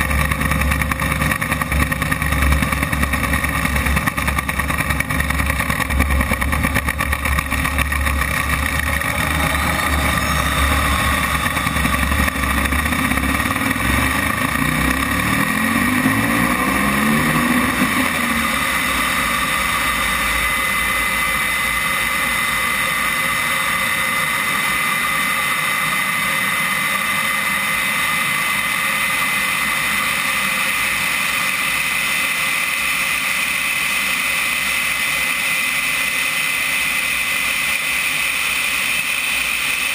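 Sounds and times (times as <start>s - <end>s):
jet turbine engine whining: 0.0s - 39.9s
wheels rumbling on runway: 0.0s - 39.9s.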